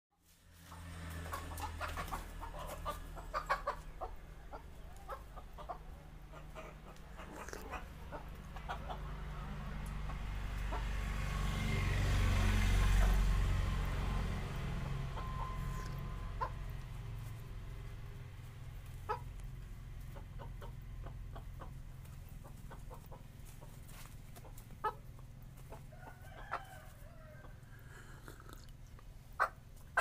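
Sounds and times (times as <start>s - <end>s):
low steady rumble: 0.4s - 26.0s
chickens clucking: 0.6s - 30.0s.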